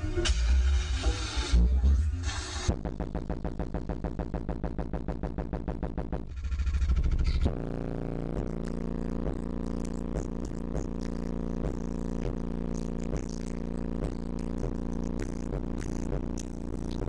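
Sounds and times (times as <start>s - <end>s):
bass-heavy music through subwoofers: 0.0s - 17.0s.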